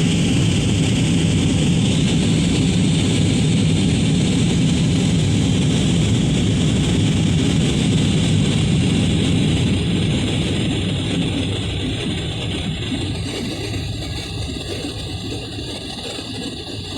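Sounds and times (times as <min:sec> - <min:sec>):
jet cabin engine rush: 0:00.0 - 0:16.9.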